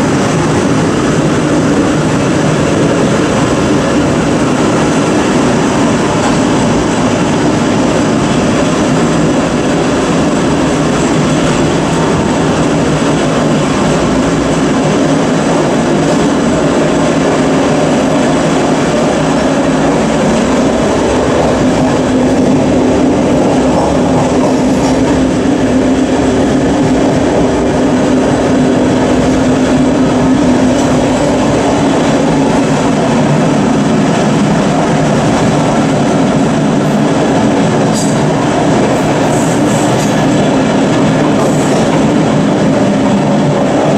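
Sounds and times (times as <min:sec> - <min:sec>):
locomotive engine drone: 0:00.0 - 0:43.9
train wheels rolling on rail: 0:00.0 - 0:43.9.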